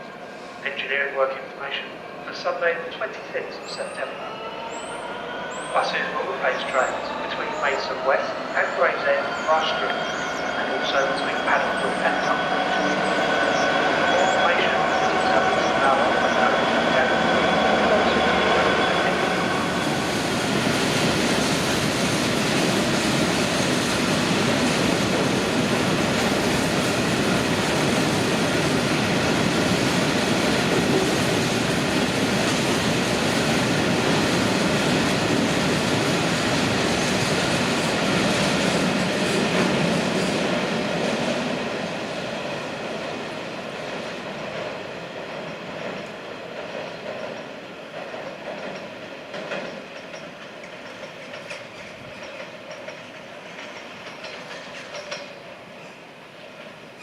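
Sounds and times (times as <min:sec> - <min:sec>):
passenger train on track: 0:00.0 - 0:57.0.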